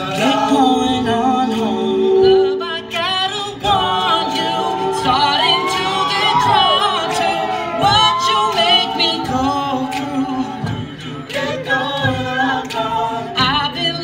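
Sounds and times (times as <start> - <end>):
men singing chord harmonies: 0.0 - 14.0.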